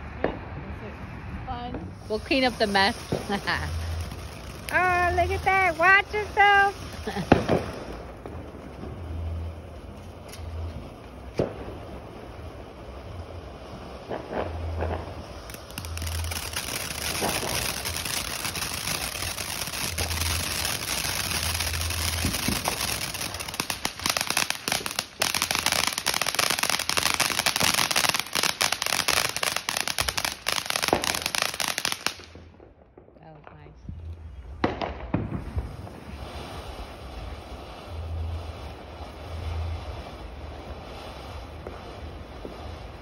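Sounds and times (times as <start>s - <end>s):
firework fountain hissing: 0.0s - 32.4s, 34.3s - 43.0s
firework crackling pops: 1.4s - 43.0s.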